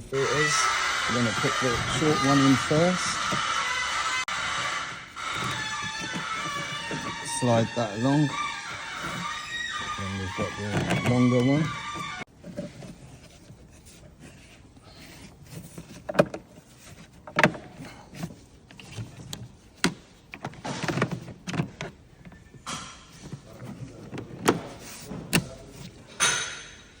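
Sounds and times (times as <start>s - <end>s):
filter scraping in housing: 0.0s - 22.3s.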